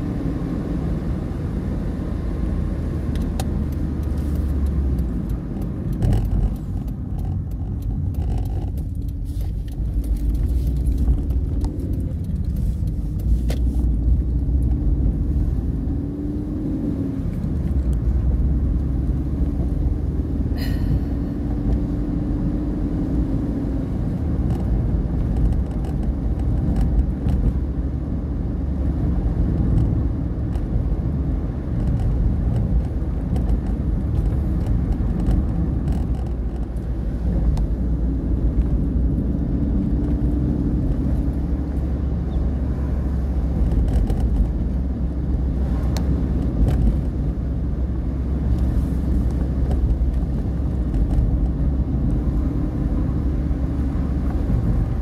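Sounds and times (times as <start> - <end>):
car engine and tyre rumble: 0.0 - 55.0
faint engine hum: 0.0 - 55.0.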